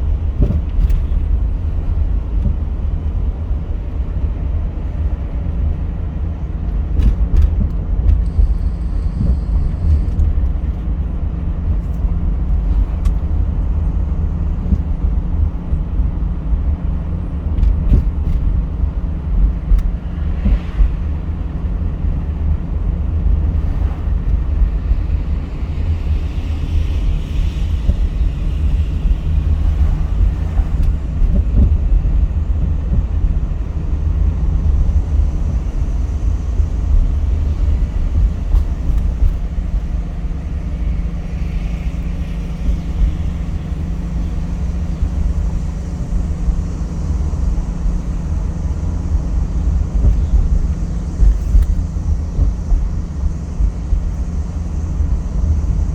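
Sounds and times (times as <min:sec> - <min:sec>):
car tyres and engine rumble: 0:00.0 - 0:55.9.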